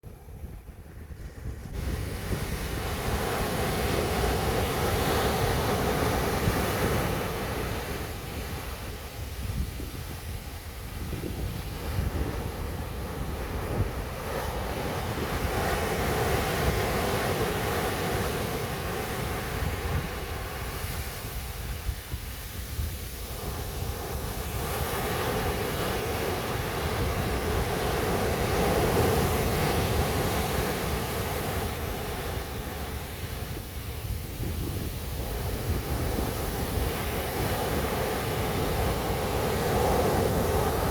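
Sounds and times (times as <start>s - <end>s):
wind rumbling on microphone: 0.0s - 40.9s
sea waves washing onto beach: 0.5s - 40.9s.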